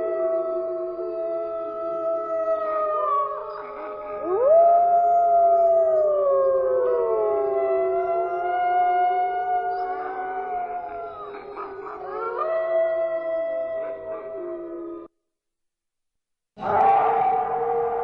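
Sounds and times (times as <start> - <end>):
wolves howling: 0.0 - 15.1, 16.6 - 18.0.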